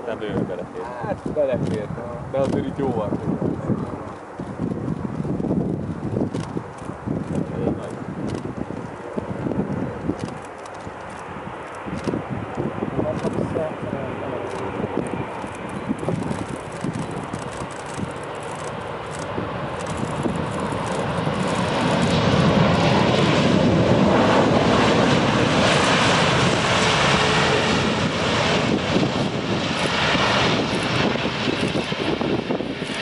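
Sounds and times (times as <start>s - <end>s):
jet engines roaring: 3.2s - 33.0s.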